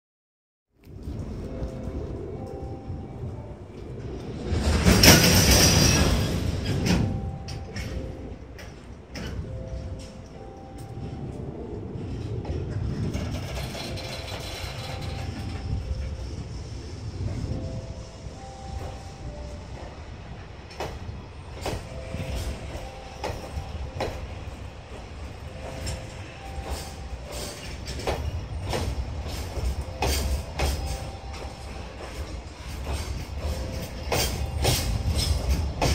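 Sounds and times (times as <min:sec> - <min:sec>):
train rolling past rumble: 0:00.8 - 0:35.9
wheels clicking over rail joints: 0:00.8 - 0:35.9.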